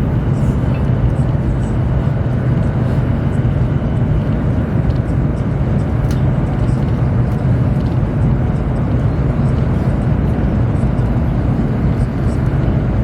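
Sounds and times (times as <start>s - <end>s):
train rumble inside cabin: 0.0s - 13.0s.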